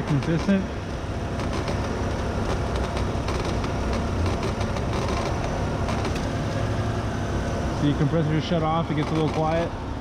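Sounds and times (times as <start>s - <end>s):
belt and pulley noise: 0.0s - 6.8s, 8.5s - 9.7s
car engine idling: 0.0s - 10.0s.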